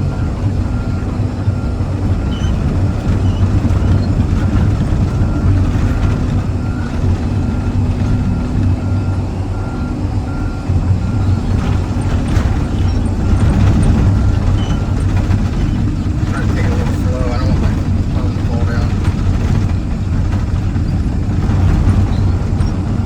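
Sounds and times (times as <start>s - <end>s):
diesel engine running: 0.0s - 23.0s
travel alarm beeping: 0.0s - 23.0s.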